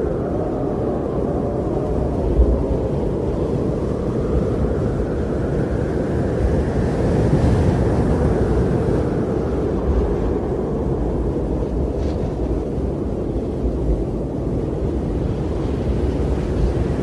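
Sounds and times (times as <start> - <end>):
strong blizzard wind: 0.0 - 17.0.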